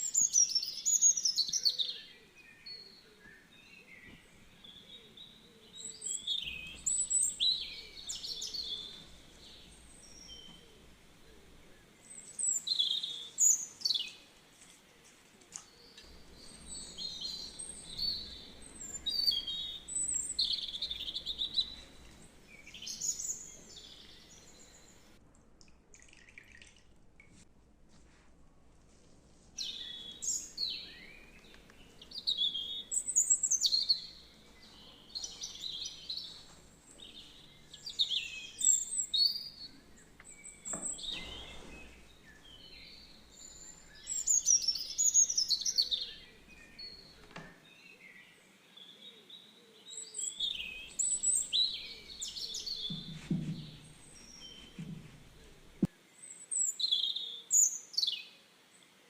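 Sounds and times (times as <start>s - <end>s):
small birds chirping and singing: 0.0s - 25.2s, 29.5s - 59.0s.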